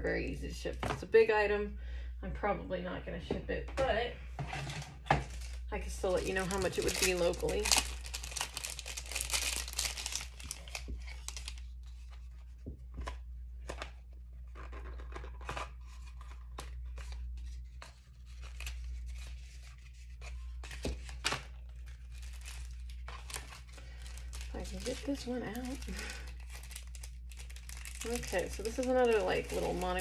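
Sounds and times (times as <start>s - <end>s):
packaging crinkling and tearing: 5.2s - 30.0s.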